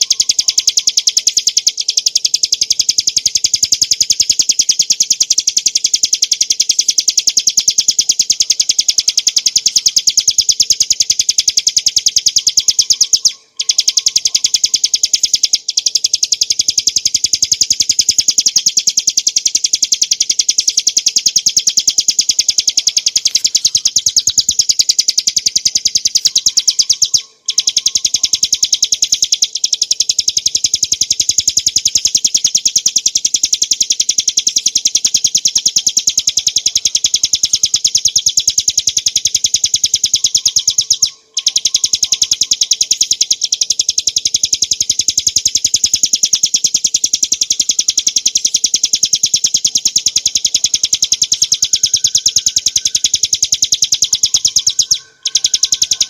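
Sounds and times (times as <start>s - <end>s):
bird singing fast trill: 0.0s - 56.0s.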